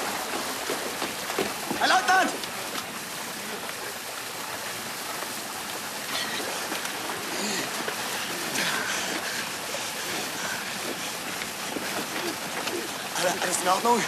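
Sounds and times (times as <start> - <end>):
water pouring and splashing: 0.0 - 14.0.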